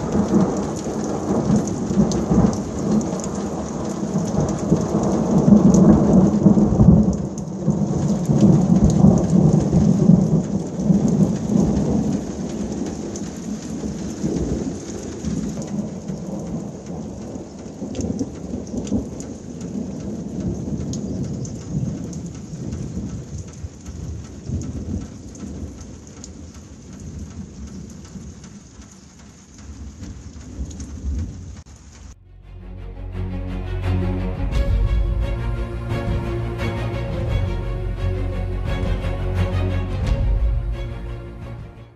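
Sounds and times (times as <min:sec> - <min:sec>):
rolling thunder: 0:00.0 - 0:29.0, 0:29.6 - 0:31.8, 0:34.4 - 0:41.9
heavy downpour of rain: 0:00.0 - 0:32.2, 0:33.0 - 0:41.9.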